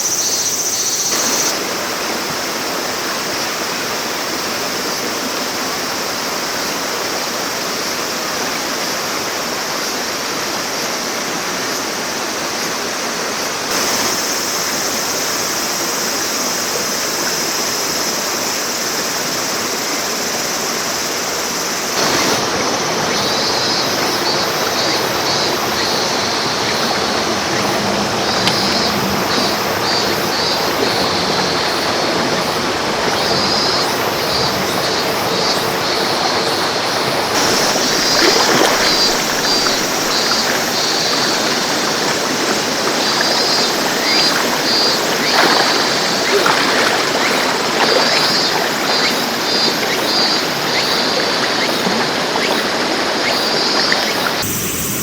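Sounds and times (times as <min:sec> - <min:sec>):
stream rushing over rocks: 0:01.1 - 0:55.0.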